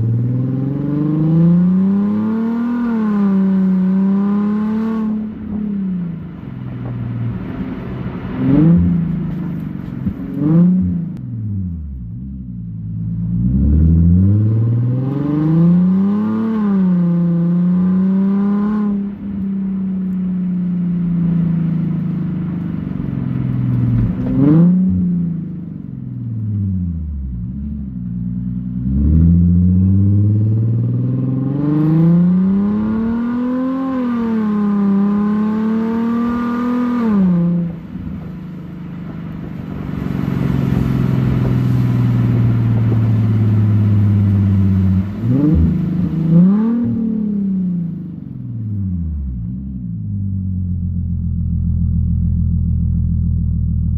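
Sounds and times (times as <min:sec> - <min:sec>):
car engine accelerating and cruising: 0:00.0 - 0:53.9.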